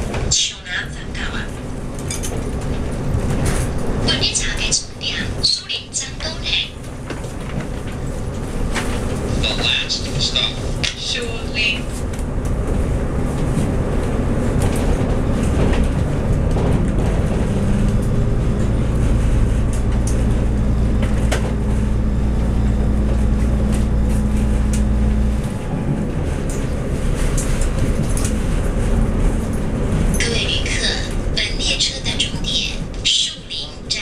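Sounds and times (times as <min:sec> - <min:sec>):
low engine drone: 0:00.0 - 0:34.0
train running noise: 0:00.0 - 0:34.0.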